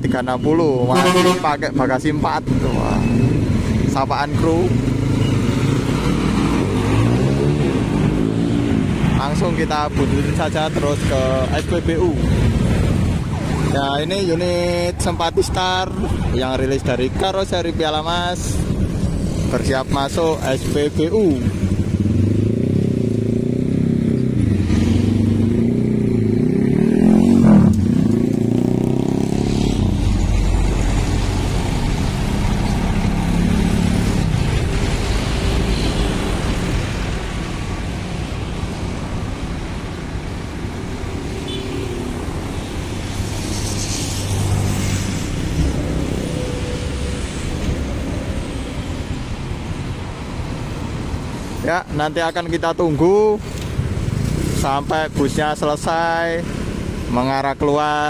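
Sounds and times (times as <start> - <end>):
road traffic: 0.0 - 58.0.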